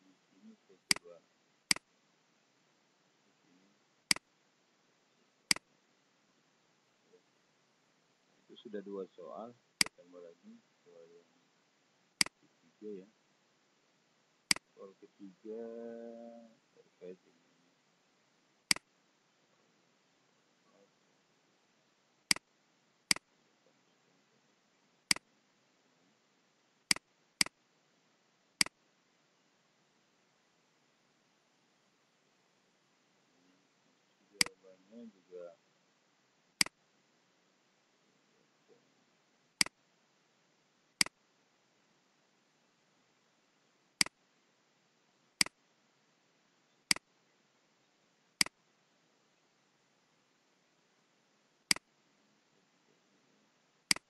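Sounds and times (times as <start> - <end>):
faint hiss: 0.0 - 54.0.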